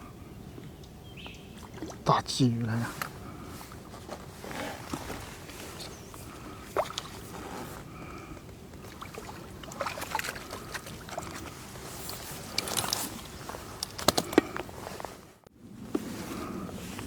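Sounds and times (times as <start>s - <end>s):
water splashing and sloshing: 1.4s - 15.2s.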